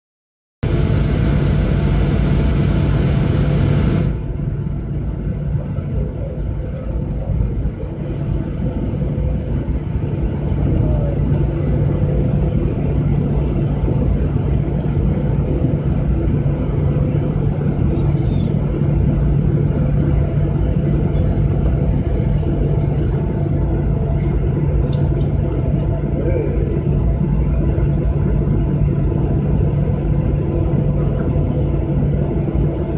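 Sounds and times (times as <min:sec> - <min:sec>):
jet engines humming in cabin: 0:00.6 - 0:32.9.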